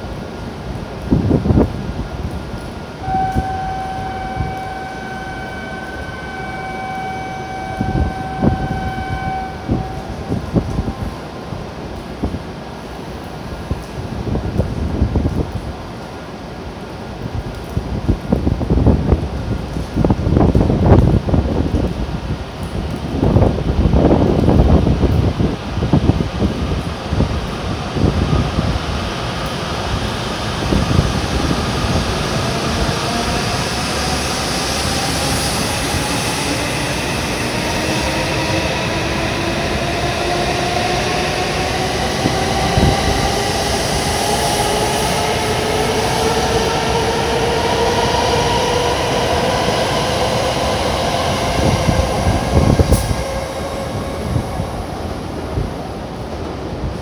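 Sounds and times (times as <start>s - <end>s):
rush of passing train cars: 0.0s - 57.0s.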